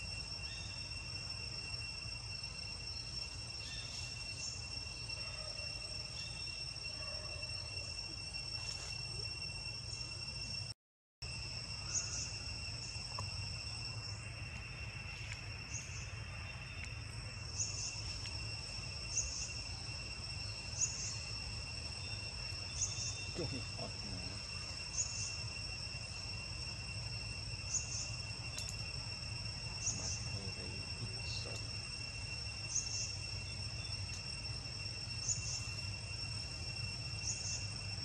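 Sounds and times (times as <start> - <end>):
high insect chirp: 0.0 - 38.0
insects trilling: 0.0 - 38.0.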